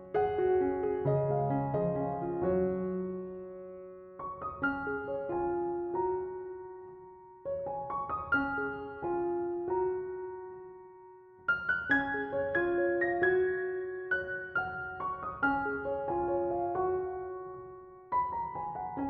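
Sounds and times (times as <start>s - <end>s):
soft slow piano music: 0.0s - 19.0s.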